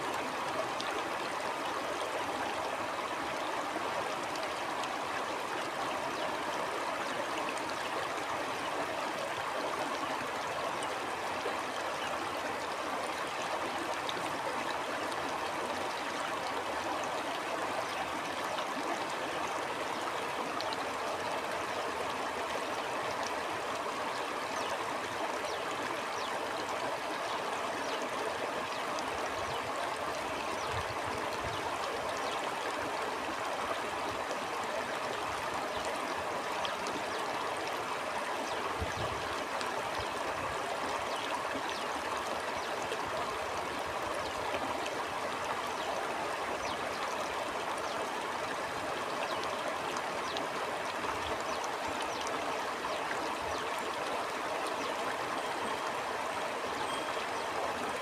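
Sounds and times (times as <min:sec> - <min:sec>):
stream water flowing over rocks: 0:00.0 - 0:58.0.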